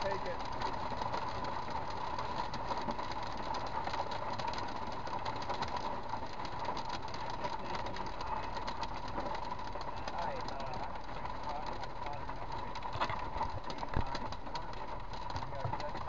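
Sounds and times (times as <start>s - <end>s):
rain pelting car windshield: 0.0s - 16.0s.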